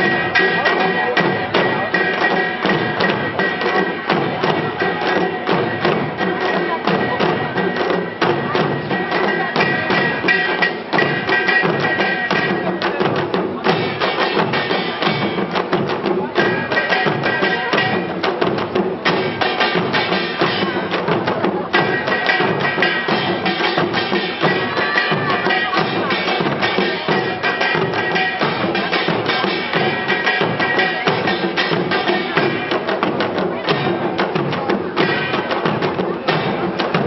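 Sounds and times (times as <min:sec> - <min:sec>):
hourglass drums fast rhythm: 0:00.0 - 0:37.0.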